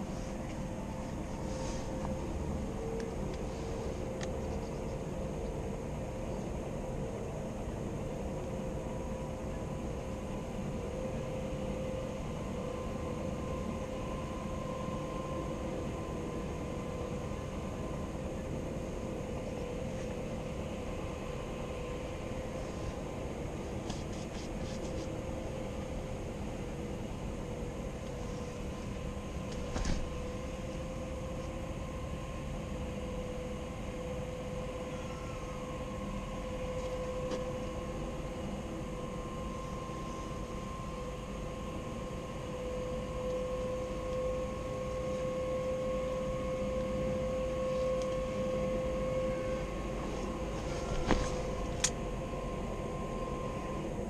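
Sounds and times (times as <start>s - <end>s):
mechanical drone with held tone: 0.0s - 54.0s.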